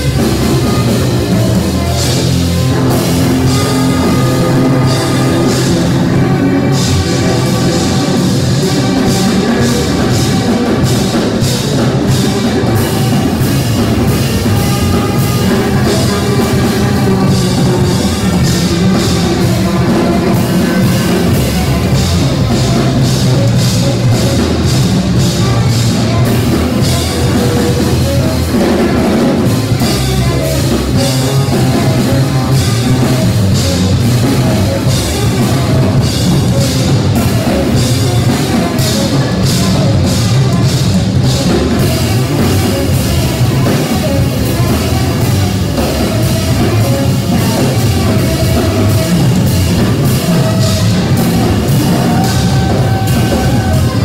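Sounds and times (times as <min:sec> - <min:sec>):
drum kit: 0:00.0 - 0:54.0
electric bass guitar: 0:00.0 - 0:54.0
tenor saxophone: 0:00.0 - 0:54.0.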